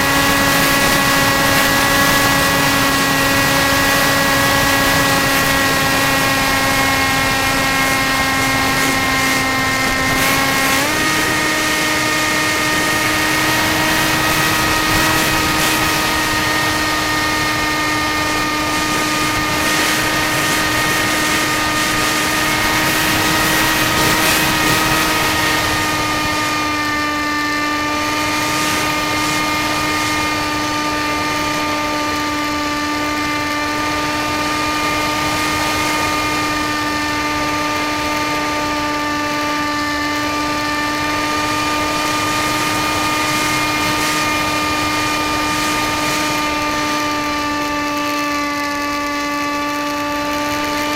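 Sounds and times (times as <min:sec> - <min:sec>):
electric model plane motor whining: 0:00.0 - 0:50.9.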